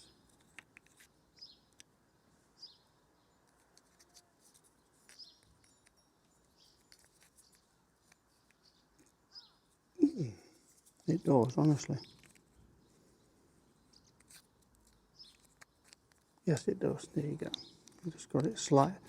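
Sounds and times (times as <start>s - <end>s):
bird chirping faintly: 0.0s - 19.0s.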